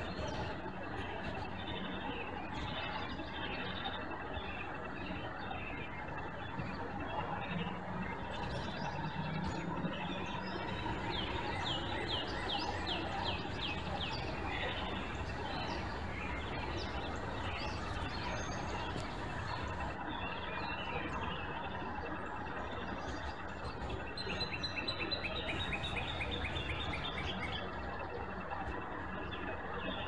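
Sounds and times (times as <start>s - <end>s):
small birds chirping: 0.0s - 30.0s
steady background hiss and rumble: 0.0s - 30.0s.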